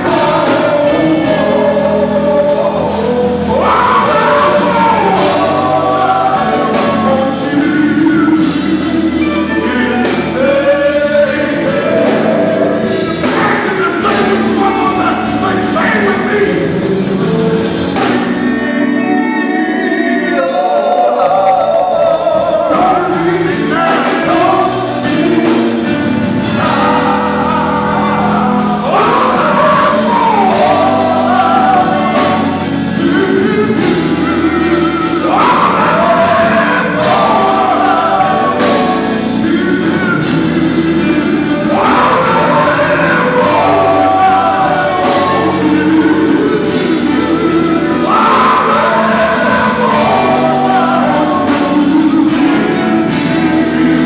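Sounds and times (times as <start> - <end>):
drums: 0.0 - 54.0
electric bass: 0.0 - 54.0
group vocals: 0.0 - 54.0
guitar: 0.0 - 54.0
keyboard: 0.0 - 54.0
lead singer: 0.0 - 54.0.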